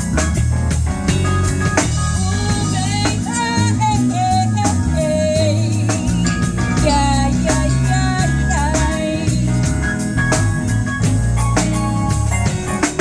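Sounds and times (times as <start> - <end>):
bass guitar: 0.0 - 13.0
drum kit beat: 0.0 - 13.0
wavering lead melody: 0.0 - 13.0.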